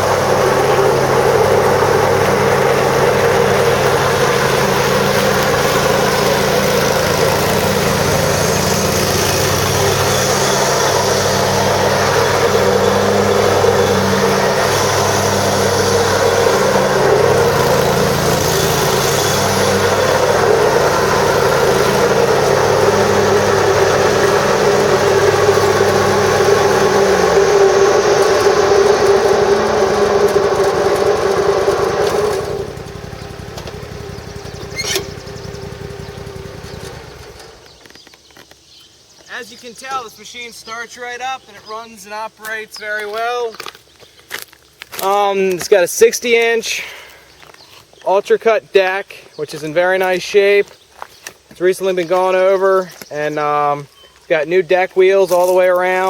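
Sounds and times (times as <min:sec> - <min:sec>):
lawn mower engine running: 0:00.0 - 0:39.4, 0:46.3 - 0:56.0.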